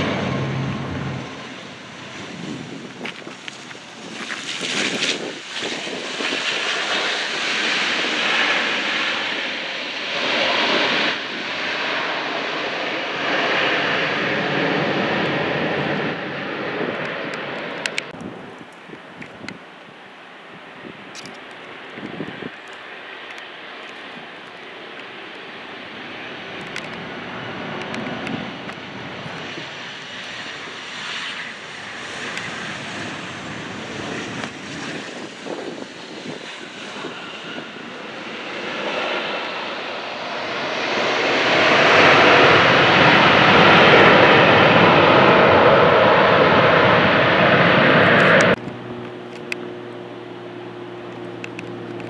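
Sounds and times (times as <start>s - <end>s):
airplane engines: 0.0s - 52.0s.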